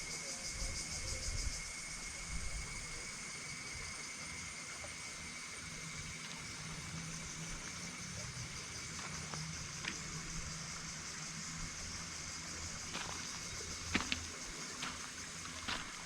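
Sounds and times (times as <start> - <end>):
insects droning: 0.0 - 16.0
thin steady whine: 0.0 - 16.0.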